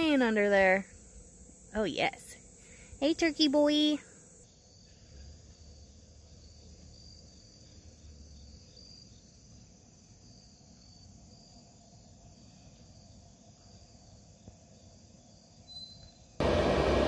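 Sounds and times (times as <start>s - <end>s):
insects trilling: 0.0s - 16.4s.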